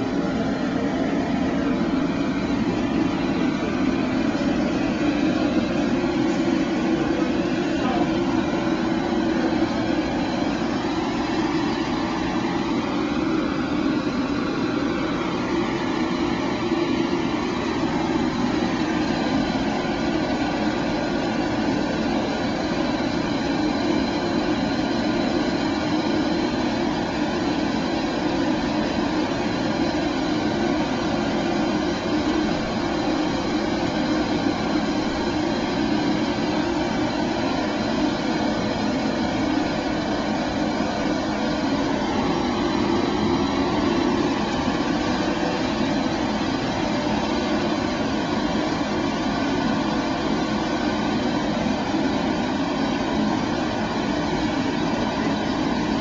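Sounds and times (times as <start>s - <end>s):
steady machine drone: 0.0s - 56.0s.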